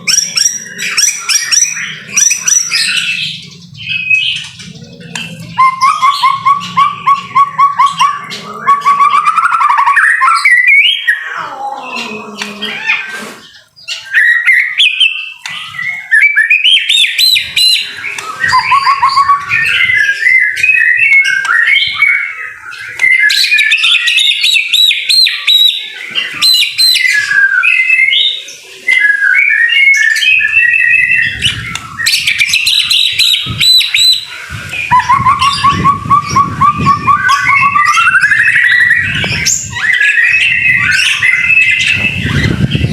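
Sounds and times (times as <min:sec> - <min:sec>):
bird singing whistles and trills: 0:00.0 - 0:11.4, 0:12.1 - 0:42.9.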